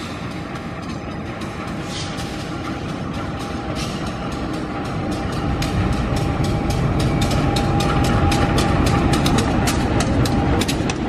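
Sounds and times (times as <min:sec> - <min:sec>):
locomotive engine rumbling: 0:00.0 - 0:11.0
wheels clicking over rail joints: 0:00.0 - 0:11.0.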